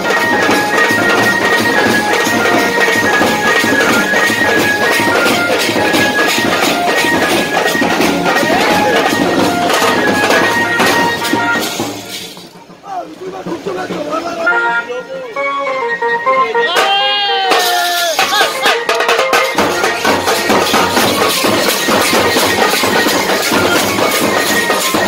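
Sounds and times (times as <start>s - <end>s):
drums beaten in fast rhythm: 0.0s - 14.8s, 16.7s - 25.0s
shrill pipe melody: 0.0s - 25.0s.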